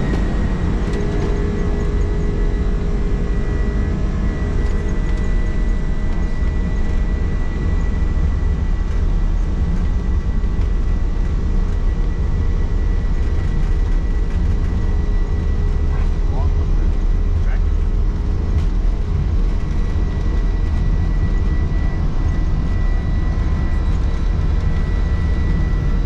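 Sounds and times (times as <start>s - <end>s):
jet engines roaring: 0.0s - 26.0s
thin steady whine: 0.0s - 26.0s.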